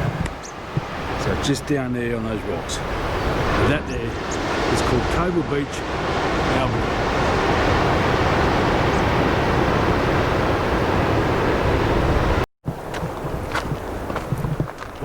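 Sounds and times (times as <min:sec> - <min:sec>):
surf: 0:00.0 - 0:12.4
wind buffeting microphone: 0:00.0 - 0:15.0.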